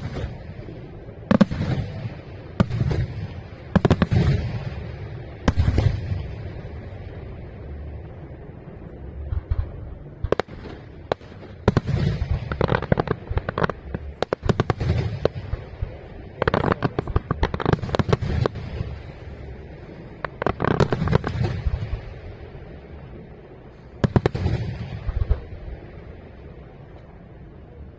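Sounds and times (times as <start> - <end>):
fireworks bangs: 0.0 - 7.7, 9.2 - 27.2.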